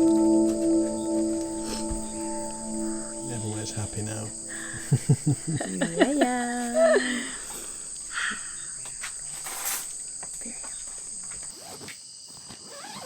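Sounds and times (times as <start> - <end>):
jungle insects shrilling: 0.0 - 11.8.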